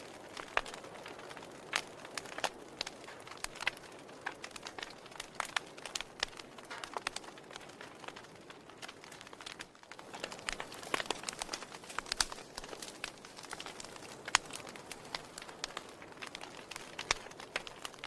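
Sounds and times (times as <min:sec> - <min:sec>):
firewood crackling and popping: 0:00.0 - 0:18.0
soft fire hiss: 0:00.0 - 0:18.0.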